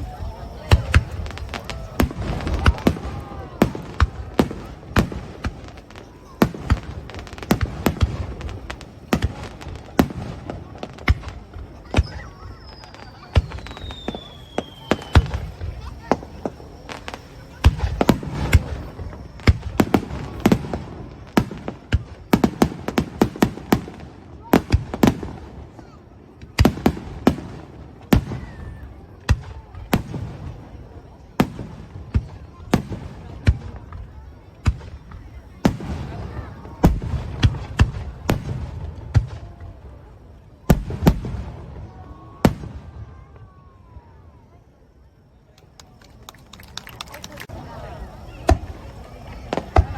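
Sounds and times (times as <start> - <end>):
firework falling whistle: 0.0 - 44.6
firework bangs: 0.0 - 49.9.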